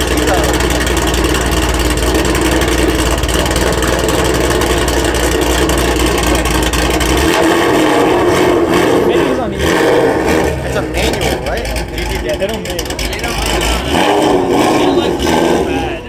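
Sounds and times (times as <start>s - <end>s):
car engine idling: 0.0s - 16.0s
mid-pitched engine hum: 0.0s - 16.0s.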